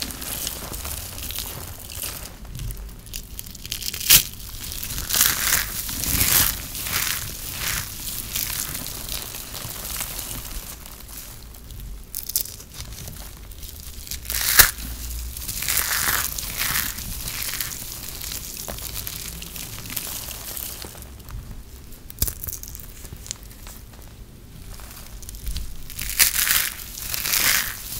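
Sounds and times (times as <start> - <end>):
dry soap crunching and crackling: 0.0 - 27.9.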